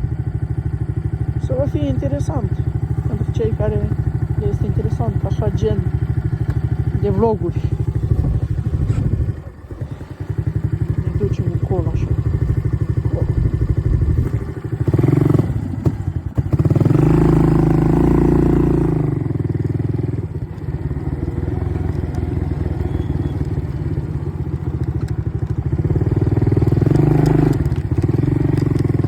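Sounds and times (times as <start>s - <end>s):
atv engine revving: 0.0s - 29.0s.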